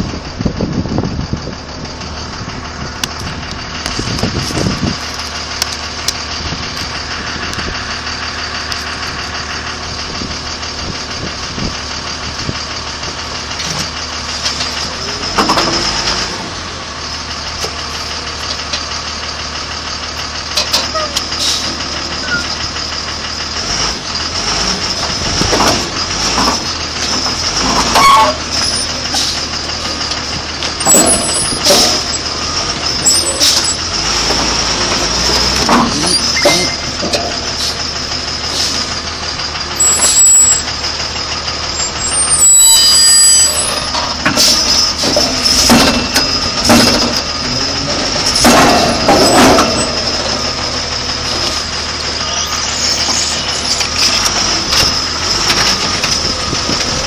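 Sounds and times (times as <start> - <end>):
heavy diesel machinery running: 0.0 - 57.0
heavy metal clanking: 0.0 - 57.0.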